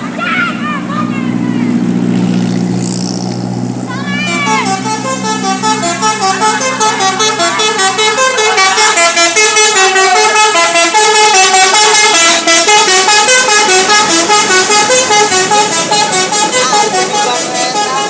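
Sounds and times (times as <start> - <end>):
bus horn playing a tune: 0.0 - 18.0.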